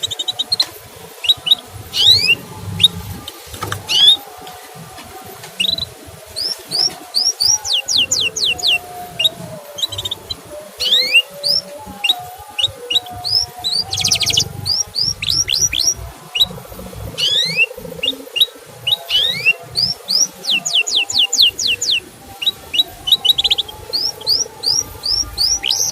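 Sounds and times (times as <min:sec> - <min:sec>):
buzzy canary trills: 0:00.0 - 0:25.9
canary chirping: 0:00.0 - 0:25.9.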